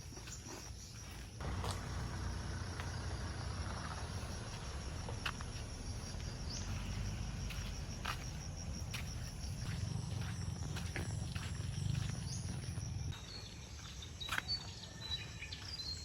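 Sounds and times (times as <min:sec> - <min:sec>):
insects chirping trill: 0:00.0 - 0:16.0.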